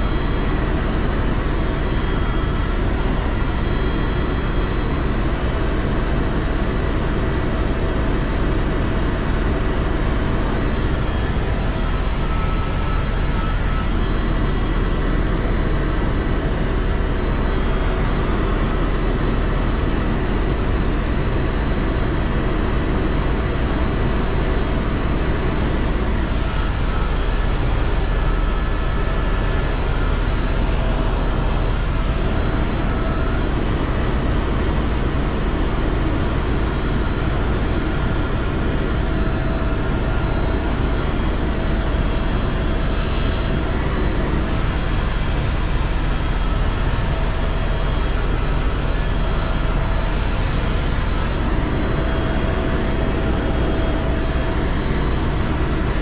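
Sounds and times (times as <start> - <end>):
faint whining tones: 0.0 - 56.0
helicopter rotor and engine drone: 0.0 - 56.0.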